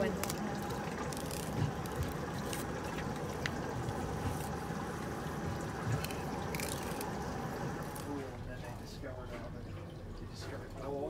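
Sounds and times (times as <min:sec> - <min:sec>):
wet wash: 0:00.0 - 0:11.0.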